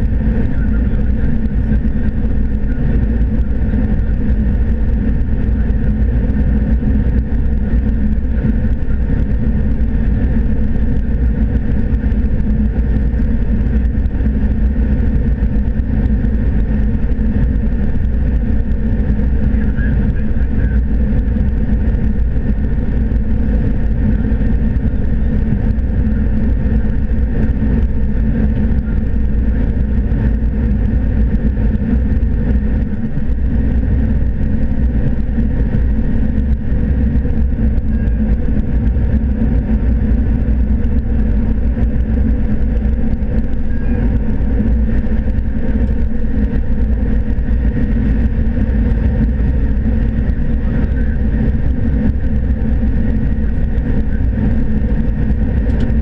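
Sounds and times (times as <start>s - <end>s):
combine harvester engine drone: 0.0s - 56.0s
steady machine tones: 0.0s - 56.0s.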